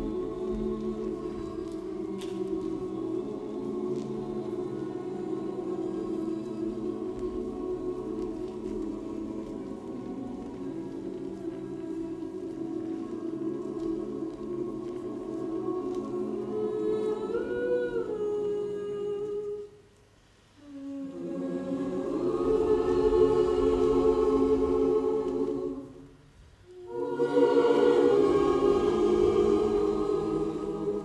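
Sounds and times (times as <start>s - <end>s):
choir singing held chords: 0.0s - 19.8s, 20.6s - 31.0s.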